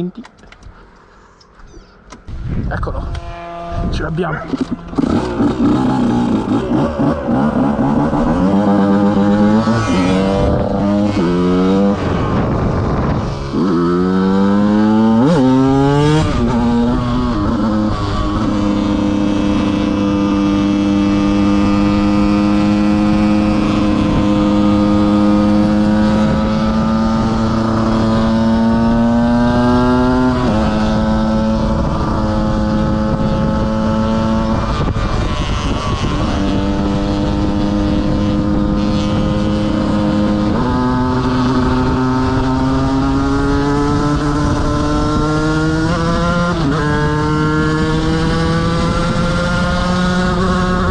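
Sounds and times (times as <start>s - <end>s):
motorcycle engine accelerating: 2.2s - 50.9s.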